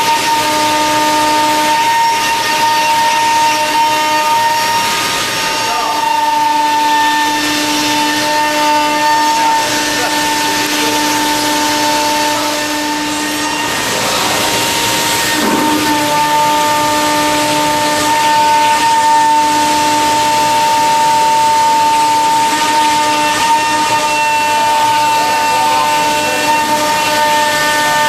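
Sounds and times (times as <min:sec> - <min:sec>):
metal cutting hiss: 0:00.0 - 0:28.0
router spindle whine: 0:00.0 - 0:28.0.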